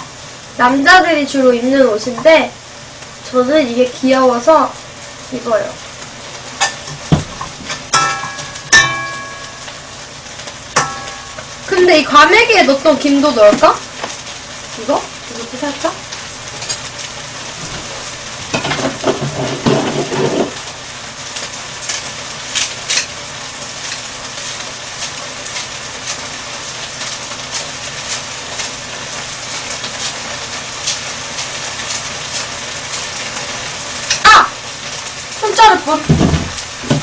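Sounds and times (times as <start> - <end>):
rice sizzling in wok: 0.0 - 37.0.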